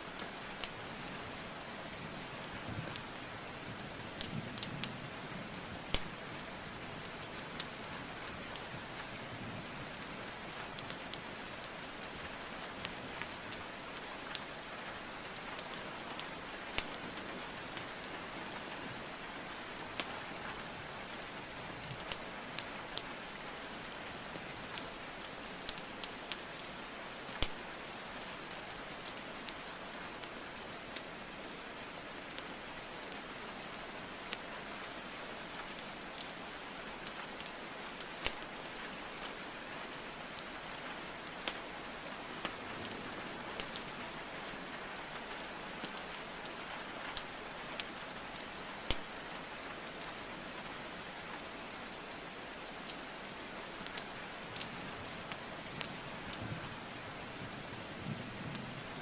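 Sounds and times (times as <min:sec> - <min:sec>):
rainfall hiss: 0:00.0 - 0:59.0.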